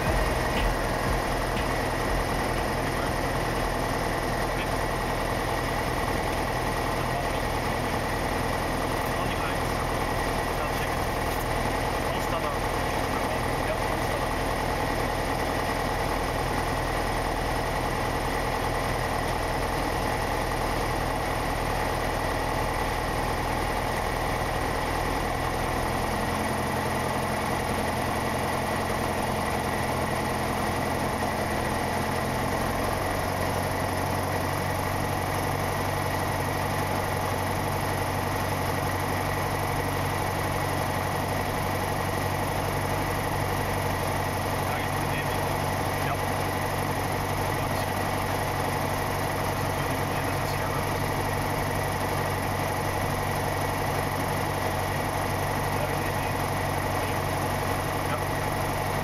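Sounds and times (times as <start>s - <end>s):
aircraft engine and propeller droning: 0.0s - 58.6s.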